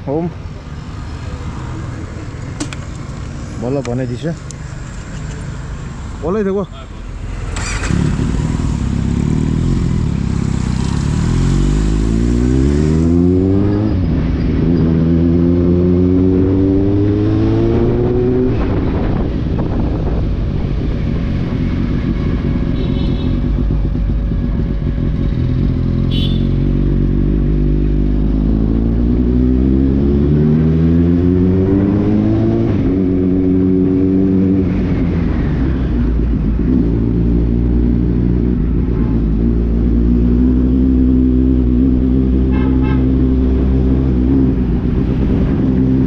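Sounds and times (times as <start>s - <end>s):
motorcycle engine accelerating: 7.1s - 46.0s.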